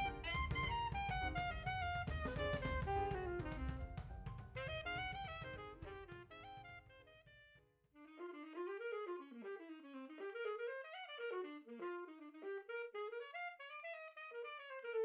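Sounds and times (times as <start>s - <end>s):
solo wind instrument melody: 0.0s - 15.0s.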